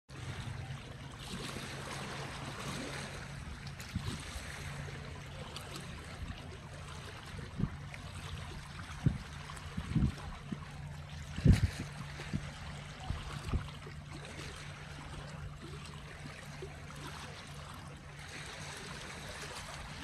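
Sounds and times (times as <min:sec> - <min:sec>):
water lapping against rocks: 0:00.1 - 0:20.0.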